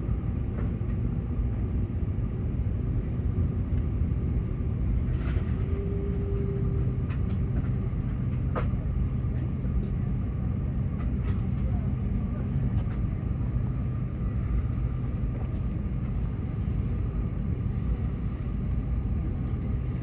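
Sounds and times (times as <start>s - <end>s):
aircraft engines rumbling in cabin: 0.0s - 20.0s.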